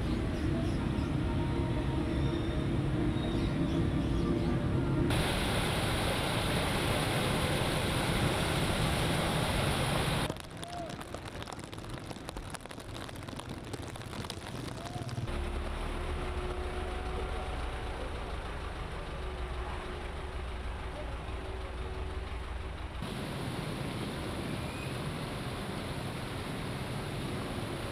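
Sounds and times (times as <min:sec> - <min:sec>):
motorcycle engine hum: 0:05.1 - 0:27.9.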